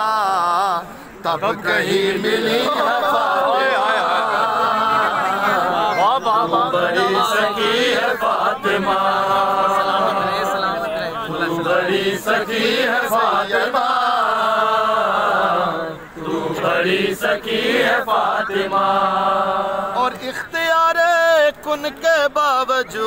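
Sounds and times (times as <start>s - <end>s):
men chanting together: 0.0s - 21.3s.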